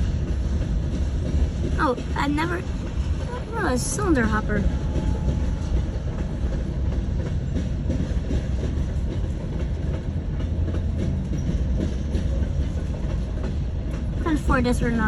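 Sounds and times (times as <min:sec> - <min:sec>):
train rumbling past: 0:00.0 - 0:15.0
wheels clicking over rail joints: 0:00.0 - 0:15.0.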